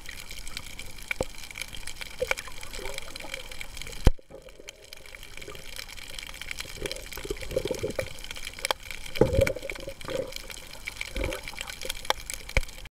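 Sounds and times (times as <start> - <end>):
scuba exhaust bubbles gurgling: 0.0 - 12.9
steady underwater hiss: 0.0 - 12.9.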